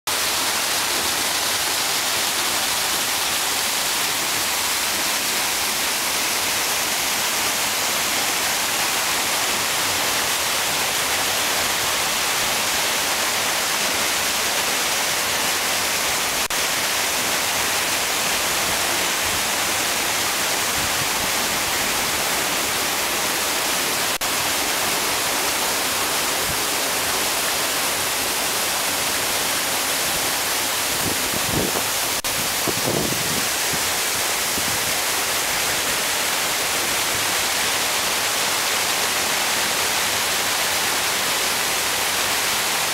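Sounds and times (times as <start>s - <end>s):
waterfall rushing: 0.1s - 42.9s.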